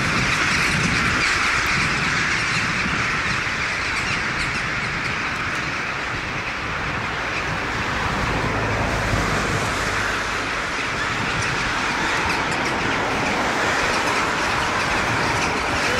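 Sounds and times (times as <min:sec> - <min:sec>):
distant train running: 0:00.0 - 0:15.9.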